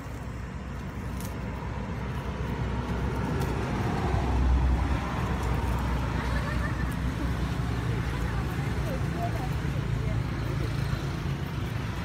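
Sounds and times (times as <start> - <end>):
passing motor vehicle rumble: 0.0 - 12.0.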